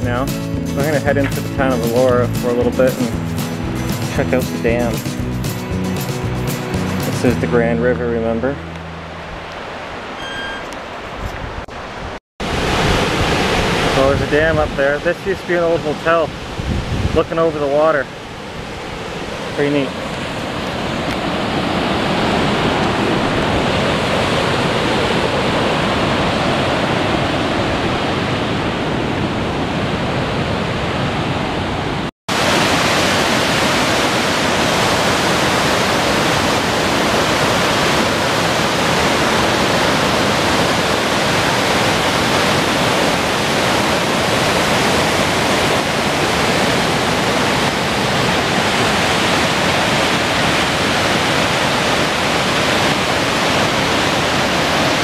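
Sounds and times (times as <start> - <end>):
water rushing over rapids: 6.5 - 55.0.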